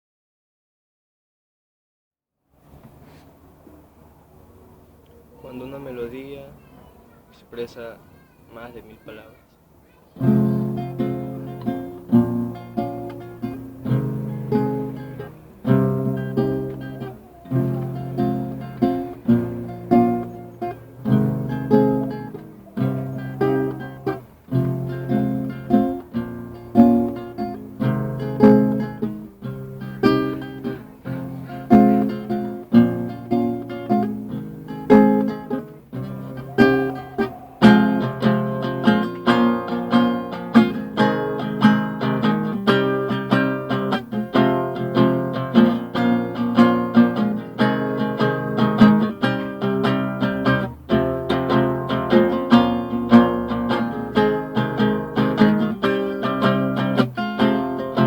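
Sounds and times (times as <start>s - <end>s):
acoustic guitar playing: 2.6s - 58.0s.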